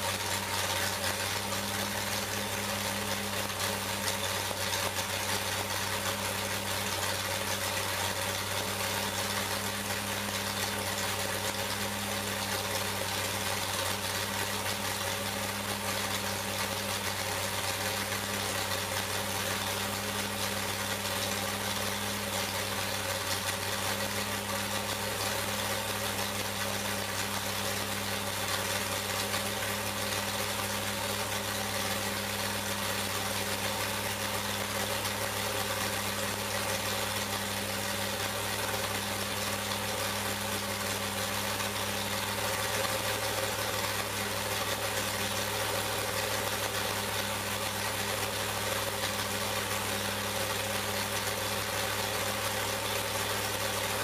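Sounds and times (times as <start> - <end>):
race engine idling: 0.0 - 54.0.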